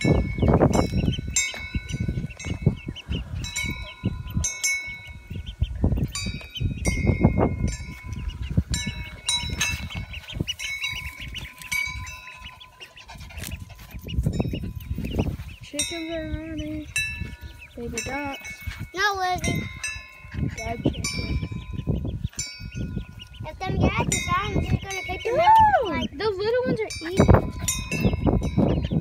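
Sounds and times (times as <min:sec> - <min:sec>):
ducklings and chicks peeping: 0:00.0 - 0:29.0
low rumble on microphone: 0:00.0 - 0:29.0.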